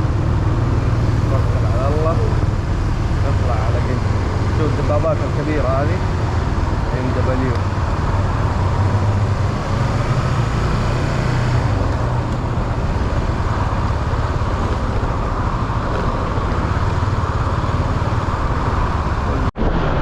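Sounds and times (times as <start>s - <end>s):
vehicle engine rumble: 0.0s - 20.0s
road hiss: 0.1s - 19.3s.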